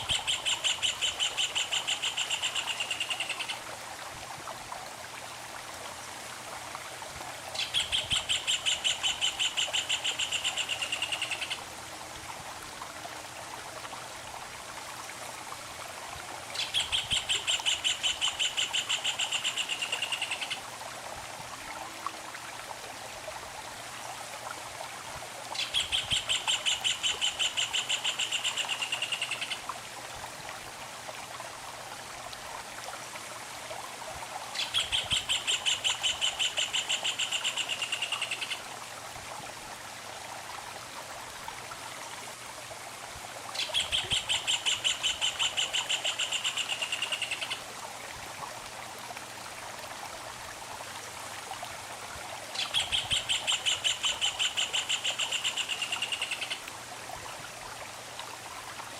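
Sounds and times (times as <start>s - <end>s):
stream running: 0.0s - 58.9s.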